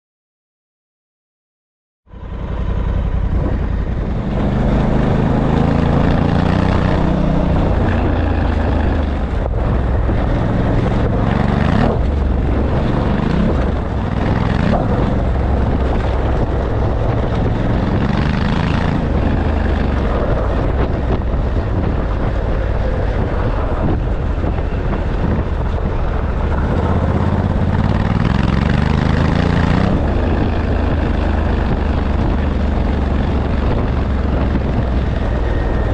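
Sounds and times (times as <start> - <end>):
large engine revving: 2.2 - 35.9.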